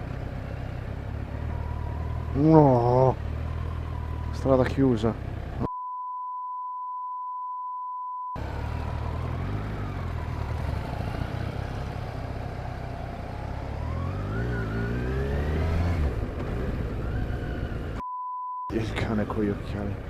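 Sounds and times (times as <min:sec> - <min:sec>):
vehicle engine with road noise: 0:00.0 - 0:05.7, 0:08.4 - 0:18.0, 0:18.7 - 0:20.0.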